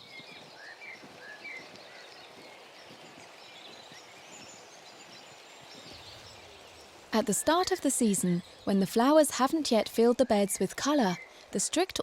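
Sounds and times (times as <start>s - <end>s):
background hiss: 0.0s - 12.0s
birds chirping: 0.0s - 12.0s.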